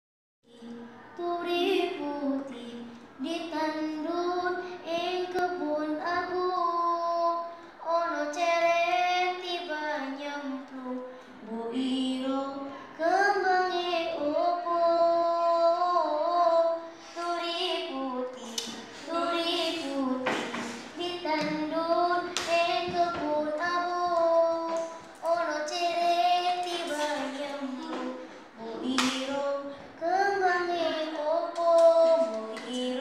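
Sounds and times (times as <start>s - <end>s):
girl singing unaccompanied: 0.4s - 33.0s.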